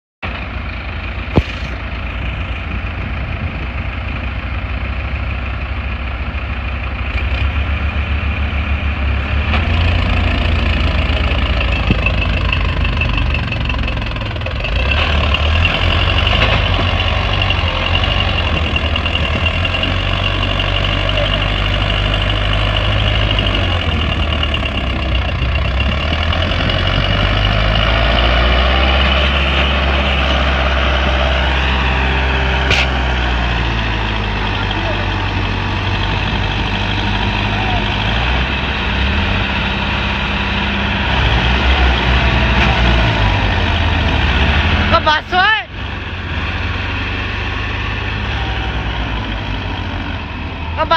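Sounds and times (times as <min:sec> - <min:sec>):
tractor engines under load: 0:00.2 - 0:50.9.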